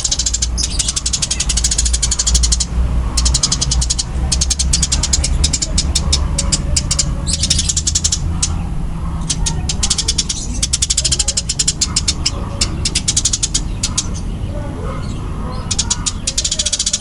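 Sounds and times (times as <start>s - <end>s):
sparrows chirping loudly: 0.0s - 17.0s
steady low hum: 0.0s - 17.0s.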